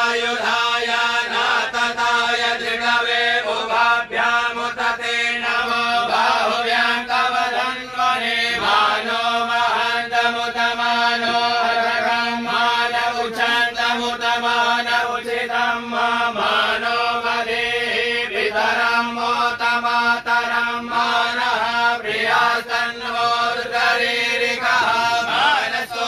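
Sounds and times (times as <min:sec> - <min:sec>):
person chanting in monotone: 0:00.0 - 0:26.0.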